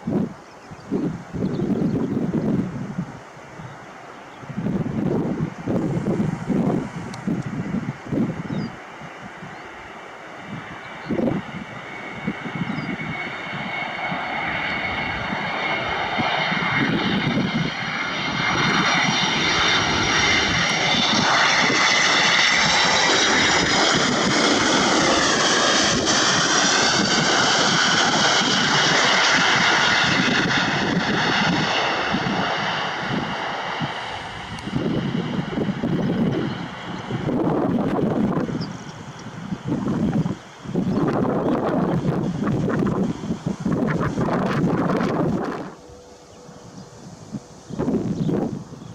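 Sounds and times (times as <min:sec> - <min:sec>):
jet engine whine passing: 0:00.0 - 0:48.9.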